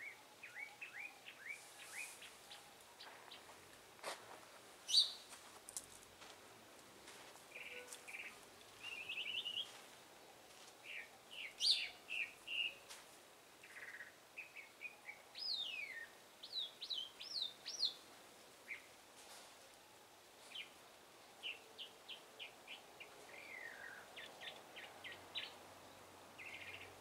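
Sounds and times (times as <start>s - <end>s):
songbirds chirping and twittering: 0.0s - 27.0s.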